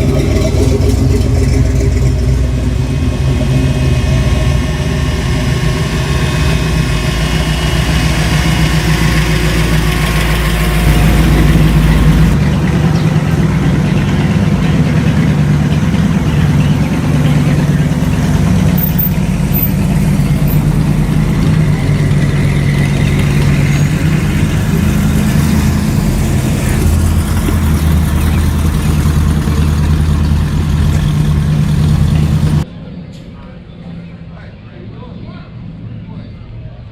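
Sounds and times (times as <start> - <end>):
car engine idling: 0.0 - 36.8.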